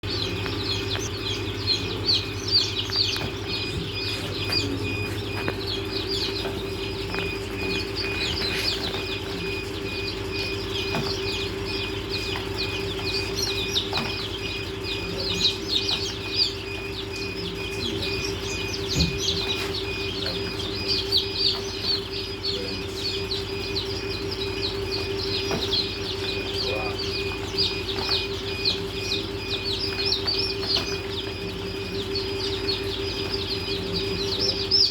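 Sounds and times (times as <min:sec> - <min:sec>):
chicks peeping: 0:00.0 - 0:34.9
steady hum: 0:00.0 - 0:34.9.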